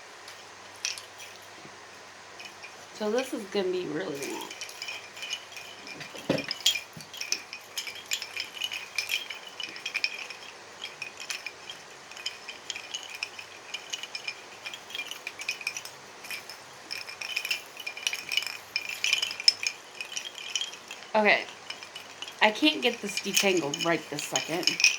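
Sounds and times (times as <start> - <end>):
wind chimes clinking: 0.0 - 24.9.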